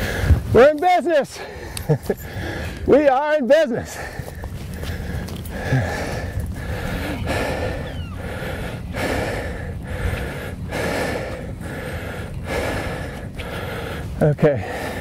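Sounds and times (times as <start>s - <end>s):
person breathing hard: 0.0s - 0.5s, 1.3s - 2.9s, 3.8s - 15.0s.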